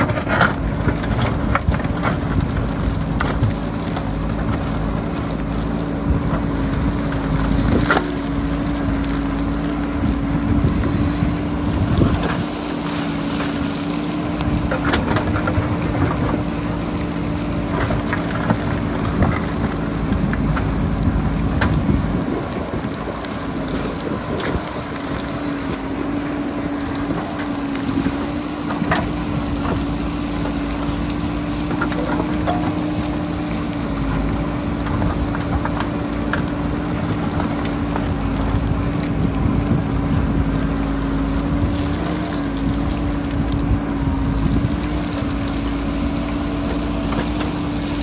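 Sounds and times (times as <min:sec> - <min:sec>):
diesel engine running: 0:00.0 - 0:48.0
wind buffeting microphone: 0:00.0 - 0:48.0.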